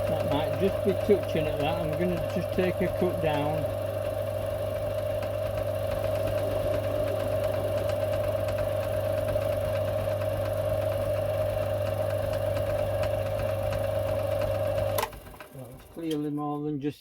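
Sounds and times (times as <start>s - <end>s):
lathe motor hum: 0.0s - 16.2s.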